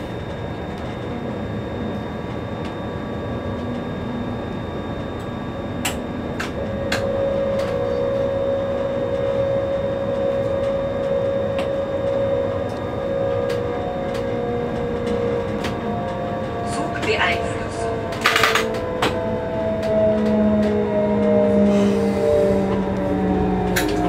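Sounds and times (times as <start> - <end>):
locomotive cab rumble: 0.0 - 24.0
steady whine: 0.0 - 24.0.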